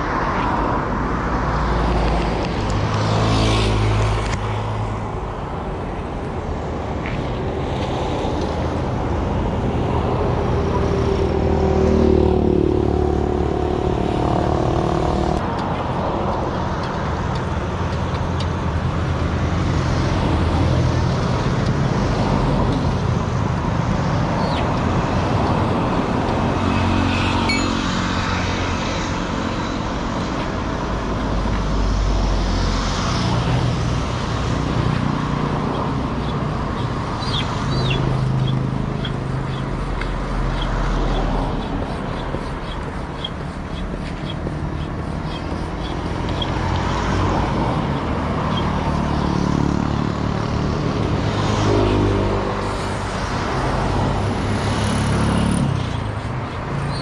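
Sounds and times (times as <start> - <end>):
road and traffic noise: 0.0 - 57.0.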